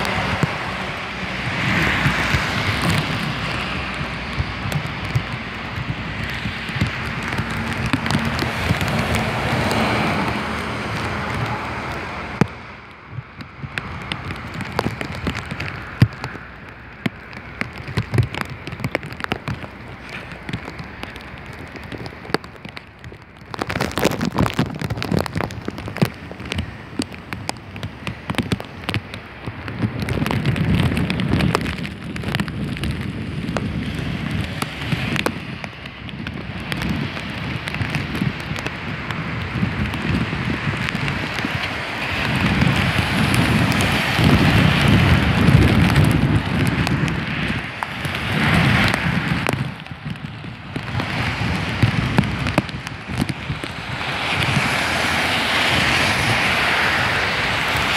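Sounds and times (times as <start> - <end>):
wind rushing: 0.0 - 22.7, 29.5 - 57.9
heavy rain patter: 0.0 - 57.9.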